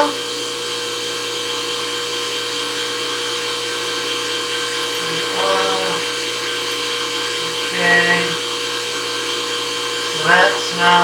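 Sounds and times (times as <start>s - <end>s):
milling machine hum and whine: 0.0s - 11.0s
oil pump running: 0.0s - 11.0s.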